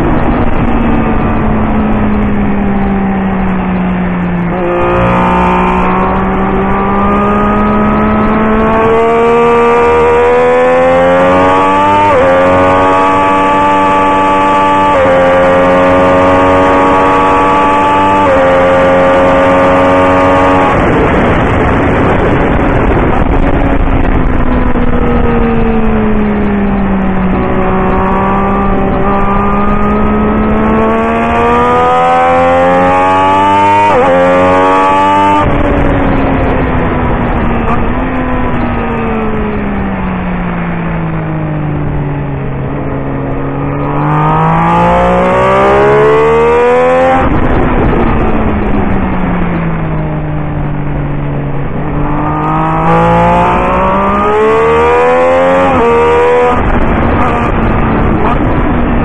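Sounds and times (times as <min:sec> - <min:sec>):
motorcycle engine revving: 0:00.0 - 0:59.0
wind rushing: 0:00.0 - 0:59.0.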